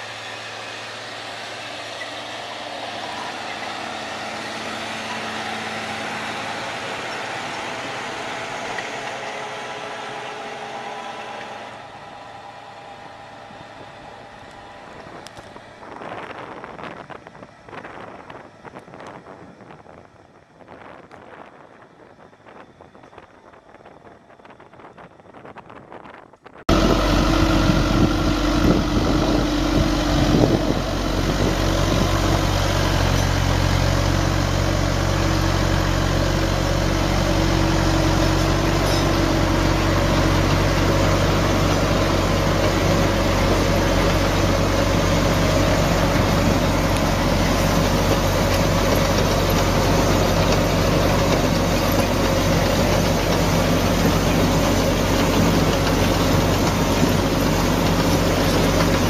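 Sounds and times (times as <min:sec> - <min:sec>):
engine running with low hum: 0:00.0 - 0:59.0.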